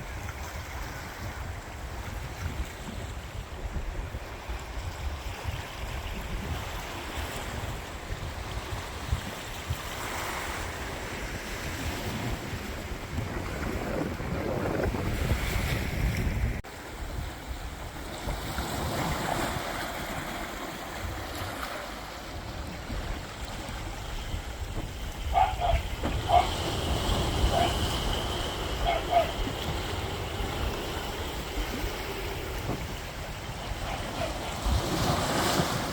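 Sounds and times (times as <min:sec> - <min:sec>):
wind rumbling on microphone: 0:00.0 - 0:35.9
sea waves washing onto shore: 0:05.9 - 0:35.9.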